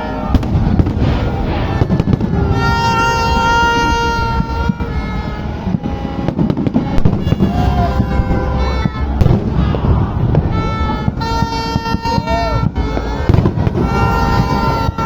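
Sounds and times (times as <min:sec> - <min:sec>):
fireworks bursting and crackling: 0:00.0 - 0:15.0
music with held tones: 0:00.0 - 0:15.0.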